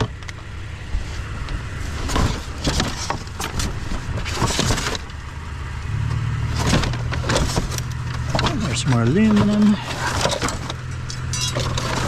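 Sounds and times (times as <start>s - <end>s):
idling vehicle engine hum: 0.0s - 12.0s
junk clattering and knocking: 0.0s - 12.0s.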